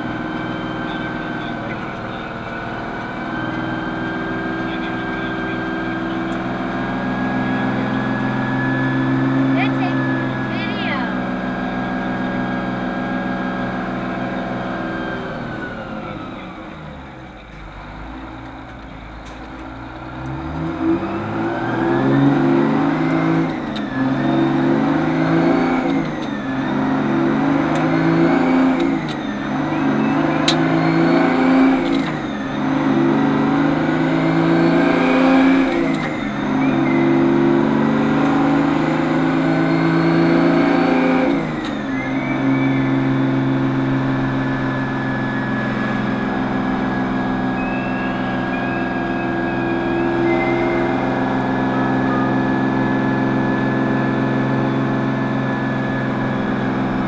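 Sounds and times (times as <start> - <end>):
truck engine idling and accelerating: 0.0 - 57.0.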